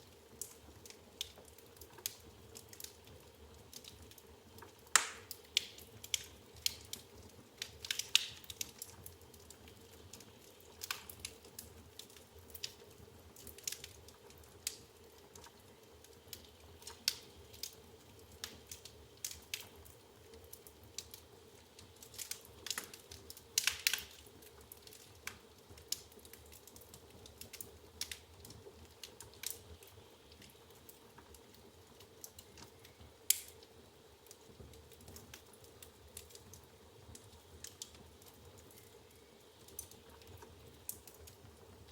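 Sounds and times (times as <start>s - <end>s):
logs crackling in fire: 0.0s - 41.9s
sharp pops and snaps of fire: 0.0s - 41.9s.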